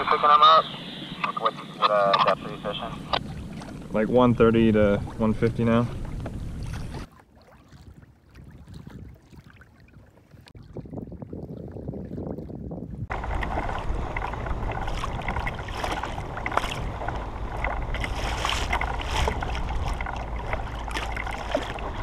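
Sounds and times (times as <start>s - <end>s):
waves lapping against kayak hull: 2.3s - 22.0s
wind on microphone: 3.1s - 22.0s.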